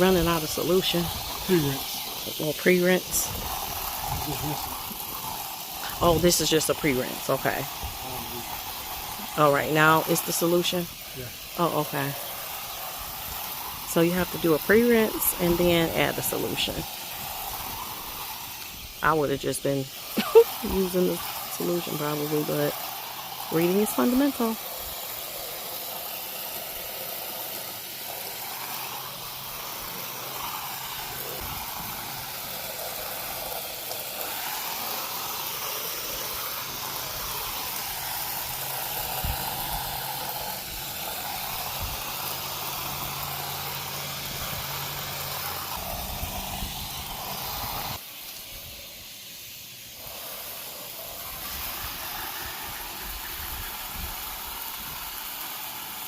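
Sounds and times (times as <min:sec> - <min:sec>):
low motor hum: 0:00.0 - 0:48.0
pressure washer jet hissing: 0:00.0 - 0:56.0.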